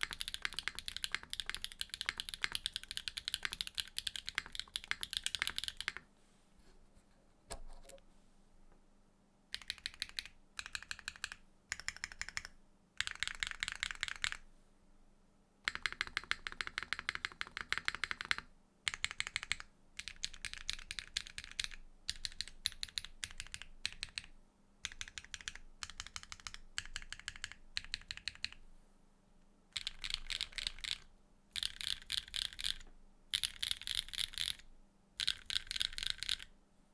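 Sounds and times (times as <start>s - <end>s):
typing on mechanical keyboard: 0.0s - 6.0s, 9.5s - 14.4s, 15.7s - 28.6s, 29.8s - 36.5s.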